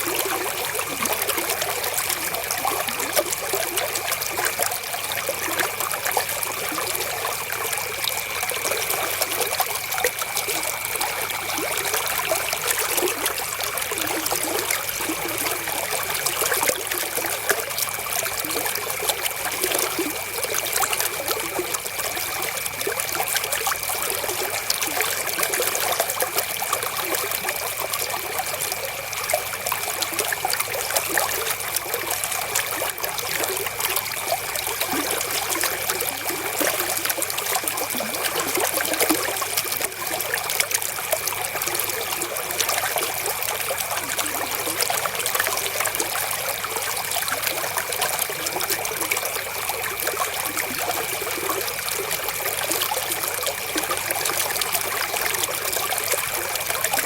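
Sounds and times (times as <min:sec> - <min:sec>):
river water trickling and babbling: 0:00.0 - 0:57.0.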